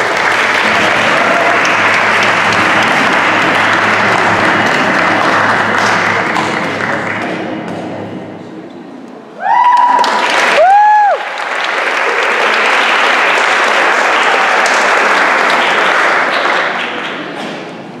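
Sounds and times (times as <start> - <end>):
audience cheering: 0.0 - 7.5, 9.4 - 16.4
audience clapping: 0.0 - 8.2, 9.5 - 17.8.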